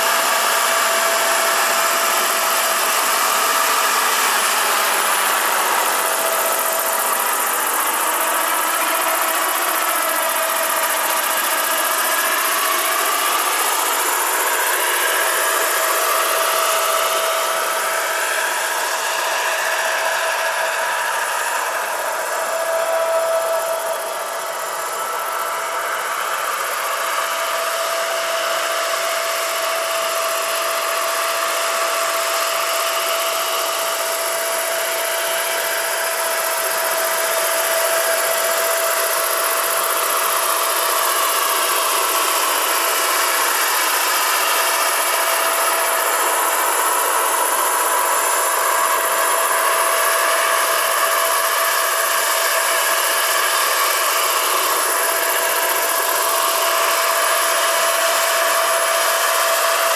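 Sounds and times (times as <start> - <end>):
helicopter rotors: 0.0 - 59.9
model helicopter turbine whining: 0.0 - 59.9.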